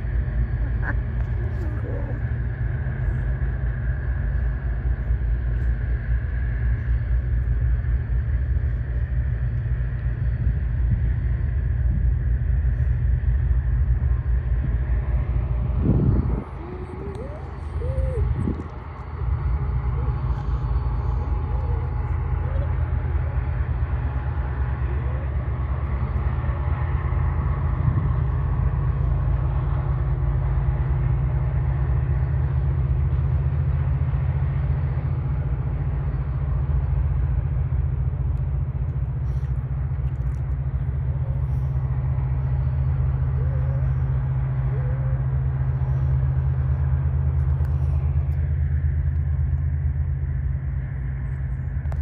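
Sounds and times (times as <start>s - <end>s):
diesel engines droning: 0.0s - 52.0s.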